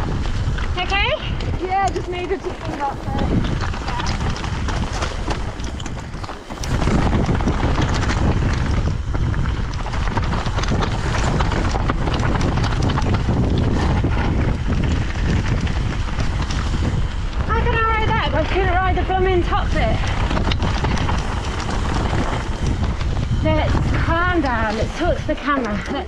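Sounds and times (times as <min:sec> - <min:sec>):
bike rattling: 0:00.0 - 0:26.0
tyres rolling over stones: 0:00.0 - 0:26.0
wind buffeting microphone: 0:00.0 - 0:26.0.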